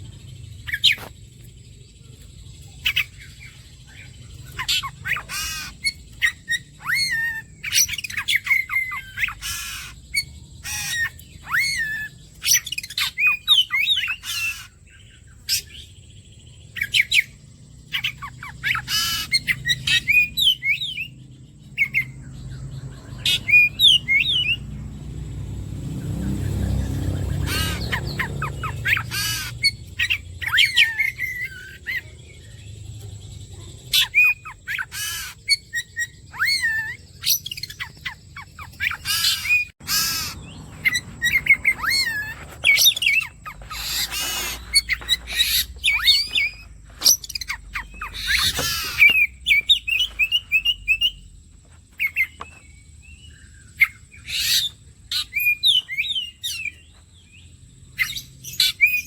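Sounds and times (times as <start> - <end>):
bird singing whistles and chirps: 0.0 - 24.8, 26.0 - 51.3, 52.0 - 59.0.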